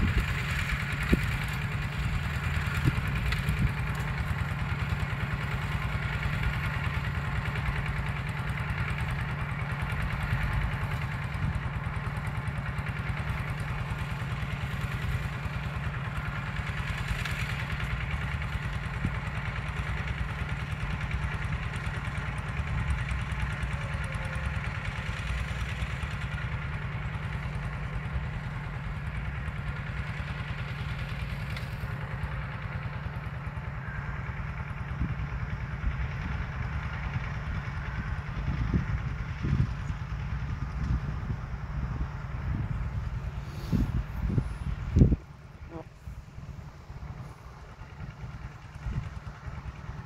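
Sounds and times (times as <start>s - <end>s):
hand tractor engine running: 0.0s - 50.0s.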